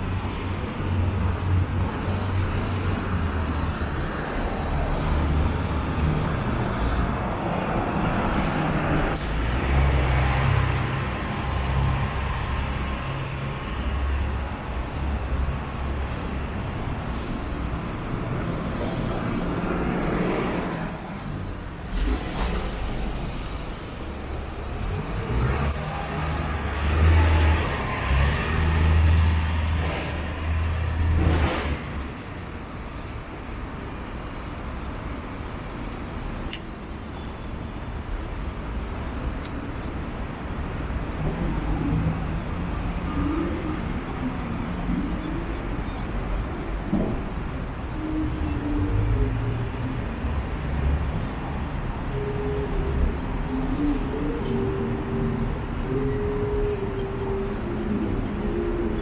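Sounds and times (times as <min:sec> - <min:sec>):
traffic engine rumble: 0:00.0 - 0:59.0.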